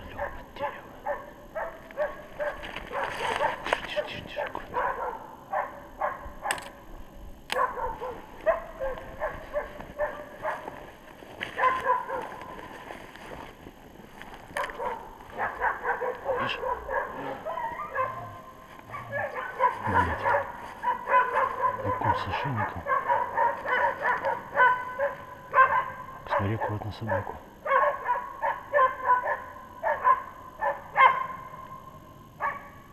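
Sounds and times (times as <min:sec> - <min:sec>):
dogs barking: 0:00.0 - 0:06.7, 0:07.5 - 0:12.8, 0:14.5 - 0:32.9.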